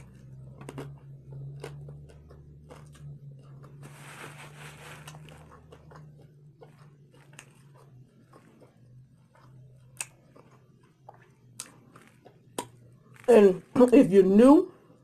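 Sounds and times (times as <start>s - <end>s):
crisp chewing crunches: 0.0s - 13.3s
steady low hum: 0.0s - 15.0s.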